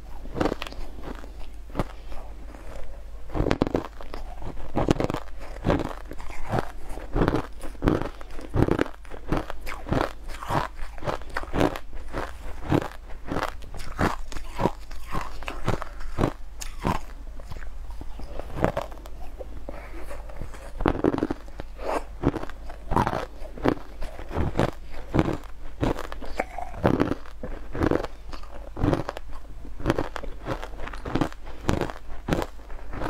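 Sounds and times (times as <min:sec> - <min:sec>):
chewing crushed ice: 0:00.2 - 0:33.0.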